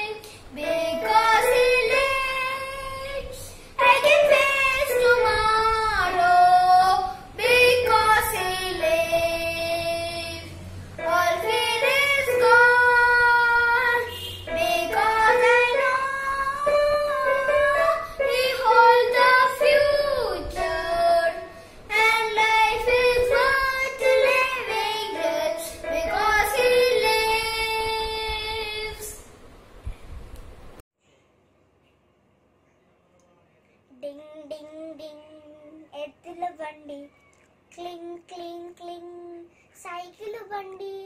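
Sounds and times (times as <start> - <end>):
boy singing: 0.0 - 29.2, 33.9 - 37.1, 37.7 - 41.0.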